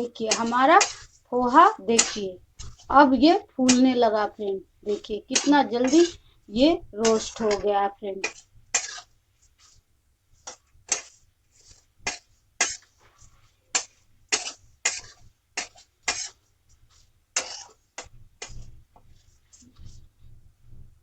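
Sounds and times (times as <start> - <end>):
spatula scraping pan: 0.0 - 9.8, 10.4 - 20.0.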